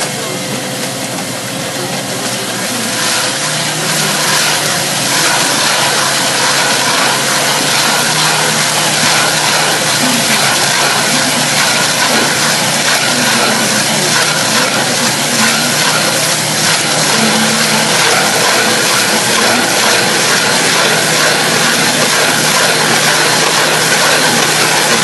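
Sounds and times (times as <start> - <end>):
excavator engine running: 0.0 - 25.0
stump planer shredding wood: 2.4 - 25.0.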